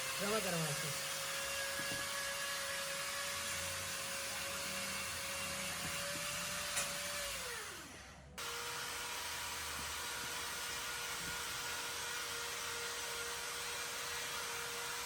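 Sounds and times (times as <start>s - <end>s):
electric motor whirring: 0.0s - 15.0s.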